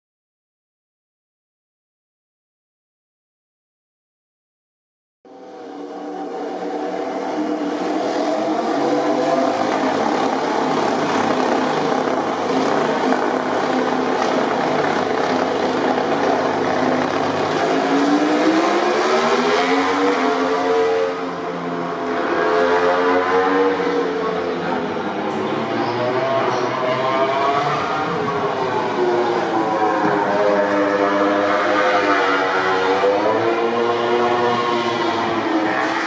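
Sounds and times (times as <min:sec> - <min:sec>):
racing motorcycle engines revving: 0:05.3 - 0:36.0.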